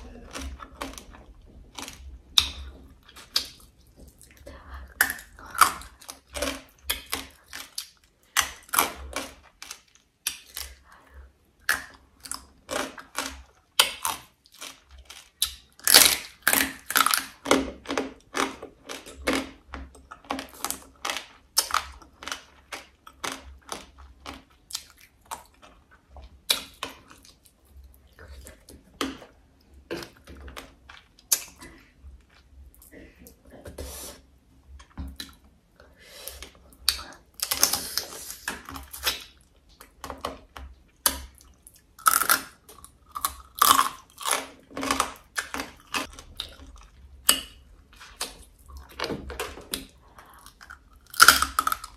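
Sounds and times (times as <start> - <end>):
chewing and crunching crab: 0.0 - 11.0, 11.6 - 32.7, 38.6 - 51.9.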